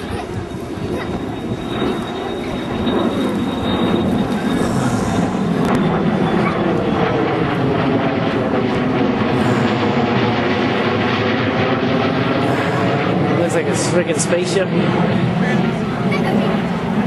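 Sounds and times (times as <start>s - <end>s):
jet bomber flying past: 0.0s - 17.0s.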